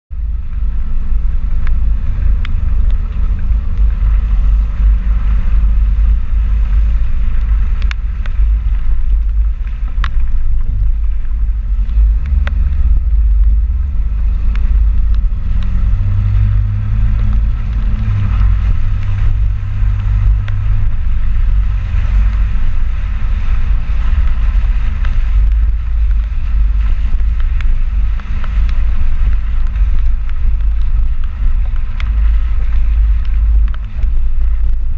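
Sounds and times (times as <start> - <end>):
pickup truck engine rumble: 0.1 - 34.9.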